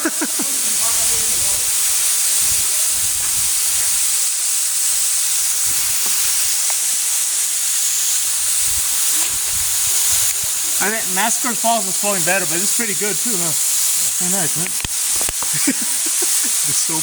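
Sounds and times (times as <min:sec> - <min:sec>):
waterfall splashing: 0:00.0 - 0:17.0.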